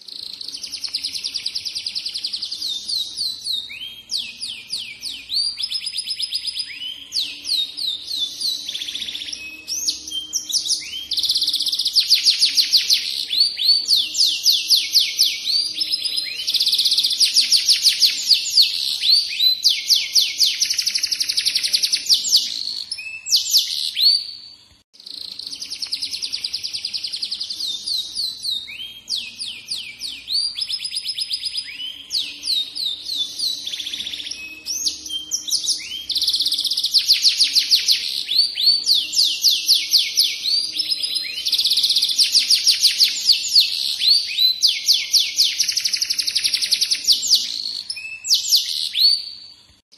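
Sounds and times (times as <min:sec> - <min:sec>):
canary singing fast trills: 0:00.0 - 0:49.6.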